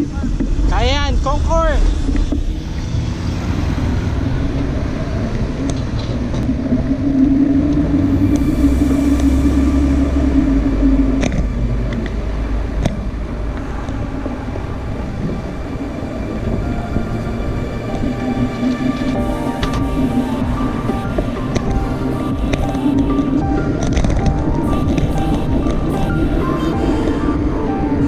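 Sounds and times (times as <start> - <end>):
low droning hum: 0.0 - 28.0
wind and road noise: 0.0 - 28.0.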